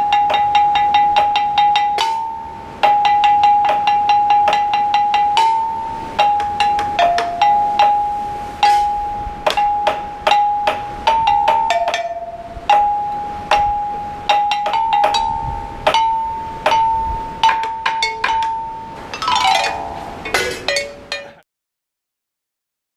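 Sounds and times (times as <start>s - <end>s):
bell-like struck notes melody: 0.0s - 21.4s.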